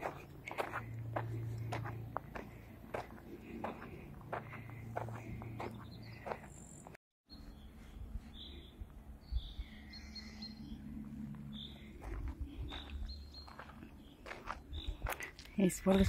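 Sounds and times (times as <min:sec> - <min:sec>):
footsteps on a trail: 0:00.0 - 0:08.5, 0:10.9 - 0:16.0
small birds chirping: 0:00.0 - 0:16.0.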